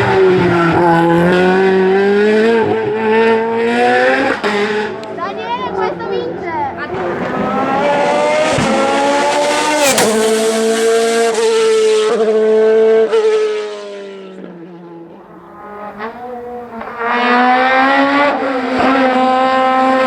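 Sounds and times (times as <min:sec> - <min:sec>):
race car engine accelerating: 0:00.2 - 0:20.0.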